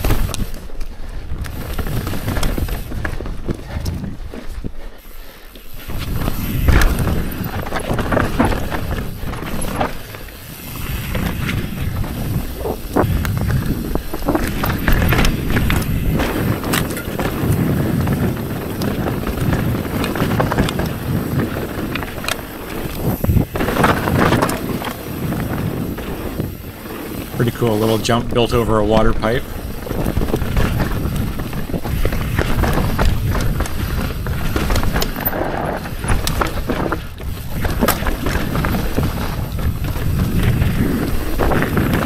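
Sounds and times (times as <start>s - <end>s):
bike rattles and knocks: 0.0s - 42.0s
tyres rumbling over dirt: 0.0s - 42.0s.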